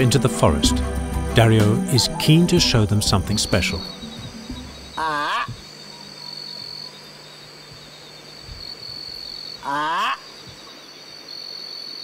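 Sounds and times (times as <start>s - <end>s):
insects shrilling: 1.6s - 12.0s.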